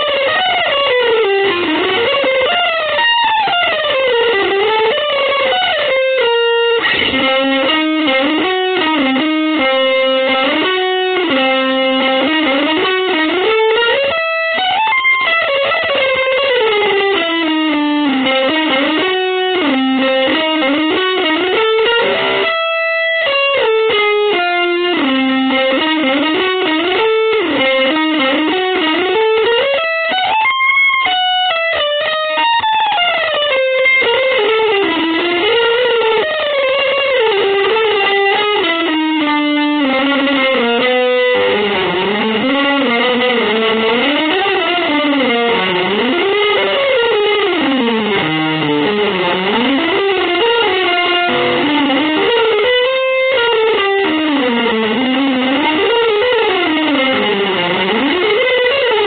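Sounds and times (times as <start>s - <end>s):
electric guitar melody: 0.0s - 59.0s.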